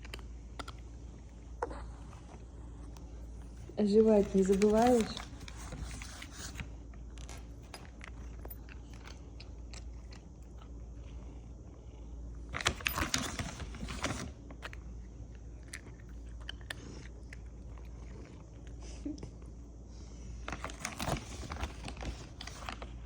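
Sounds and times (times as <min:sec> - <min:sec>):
cat crunching dry treats: 0:00.0 - 0:11.2, 0:12.5 - 0:18.8, 0:20.4 - 0:23.0.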